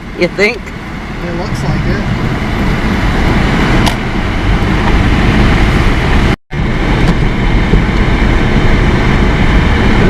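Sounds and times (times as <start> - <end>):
road and tyre noise in car: 0.0 - 10.0.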